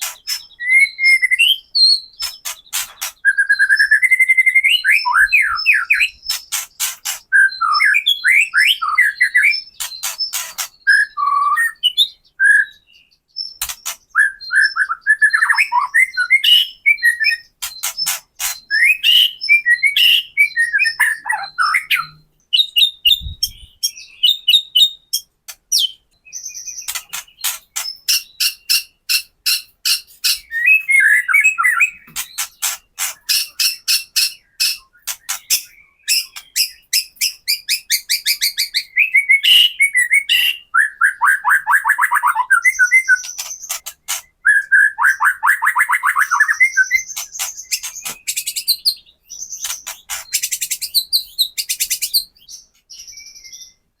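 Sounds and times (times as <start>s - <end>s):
bird singing rattling notes and trills: 0.0s - 53.9s.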